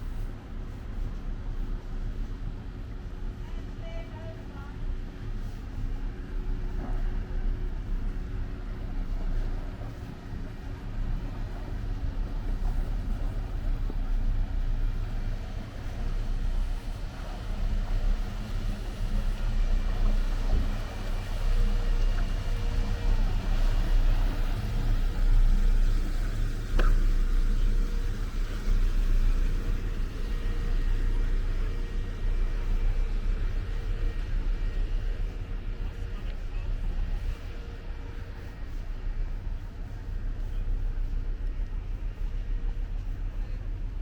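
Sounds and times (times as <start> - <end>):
faint steady hums: 0.0 - 44.0.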